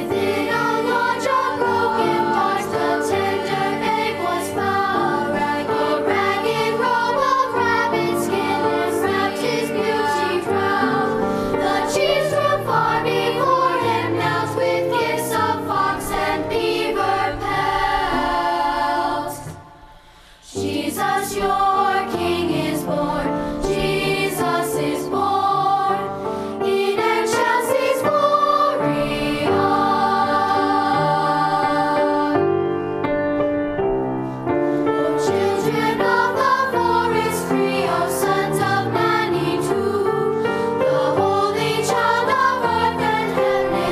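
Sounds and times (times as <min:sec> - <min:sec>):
choir singing: 0:00.0 - 0:32.9, 0:34.8 - 0:43.9.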